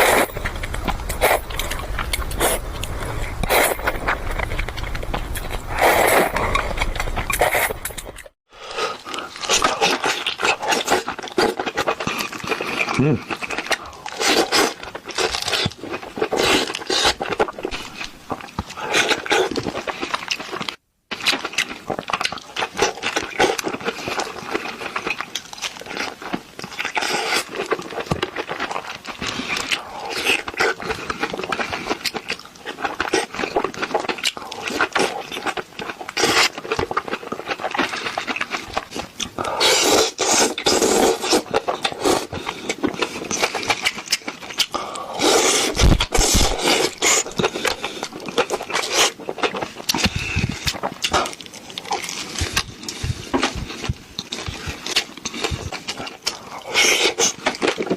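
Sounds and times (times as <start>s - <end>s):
food being chewed and slurped: 0.0s - 57.9s.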